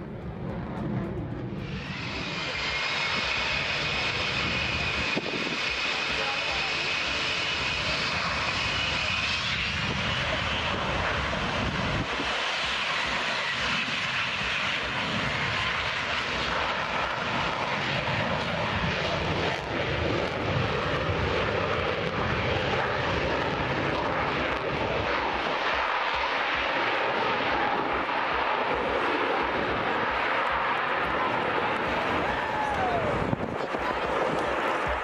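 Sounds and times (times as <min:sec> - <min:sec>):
fighter jet roaring: 0:00.0 - 0:35.0.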